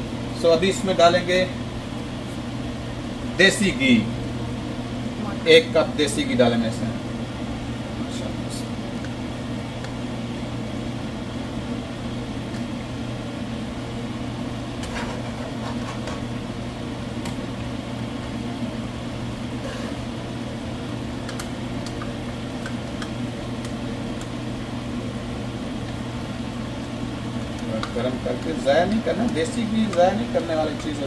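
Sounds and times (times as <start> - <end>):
exhaust fan motor hum: 0.0 - 31.0.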